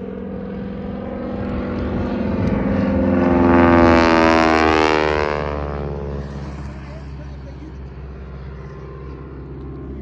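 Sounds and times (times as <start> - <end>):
propeller plane passing overhead: 0.0 - 10.0.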